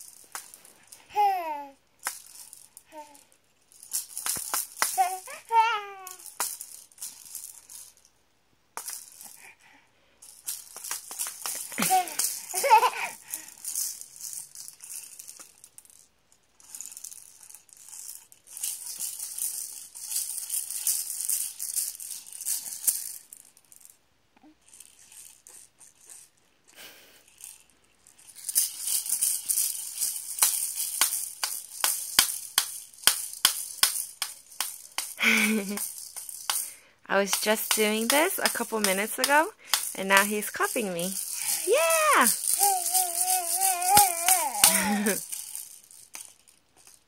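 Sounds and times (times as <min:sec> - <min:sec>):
plastic toy rattle shaking: 0:00.0 - 0:08.2, 0:08.8 - 0:47.0.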